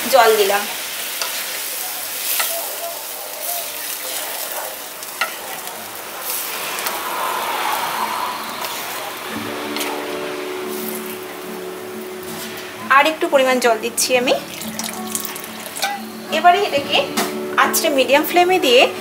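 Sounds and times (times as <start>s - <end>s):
lentils sizzling and sloshing: 0.0s - 16.7s.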